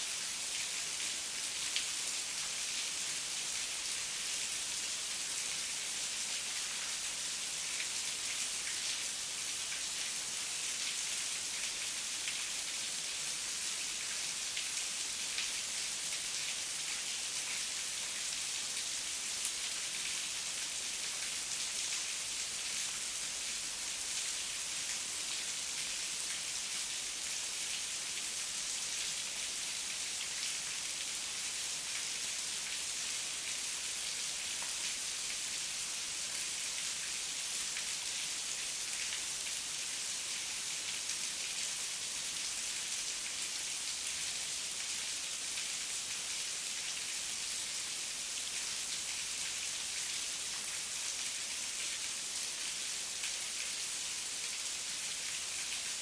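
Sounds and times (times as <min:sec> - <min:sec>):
heavy rain in forest: 0:00.0 - 0:56.0.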